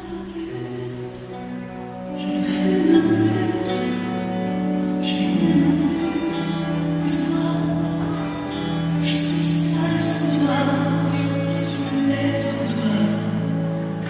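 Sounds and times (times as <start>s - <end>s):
slow music with long held notes: 0.0s - 14.0s.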